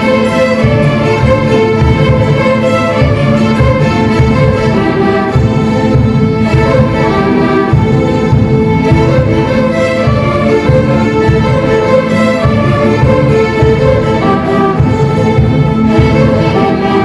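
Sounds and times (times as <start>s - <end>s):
folk orchestra playing: 0.0s - 17.0s
pulsing low rhythm: 0.0s - 17.0s
violins: 0.0s - 17.0s.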